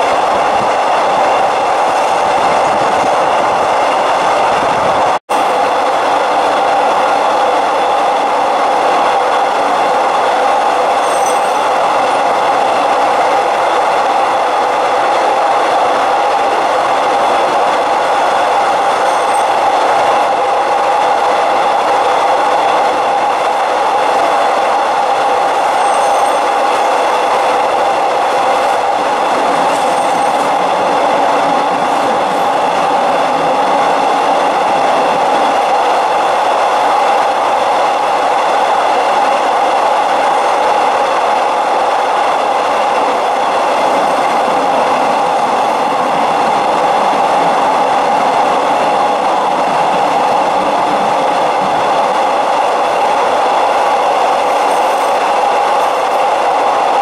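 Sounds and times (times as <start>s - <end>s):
train running on track: 0.0s - 57.0s.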